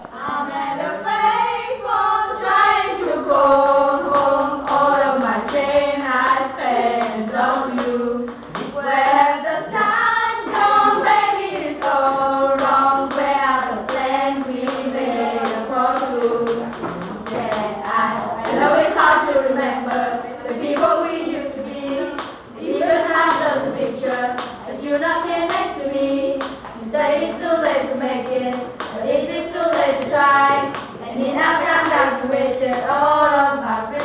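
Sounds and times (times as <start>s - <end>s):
girls singing together: 0.0s - 34.0s.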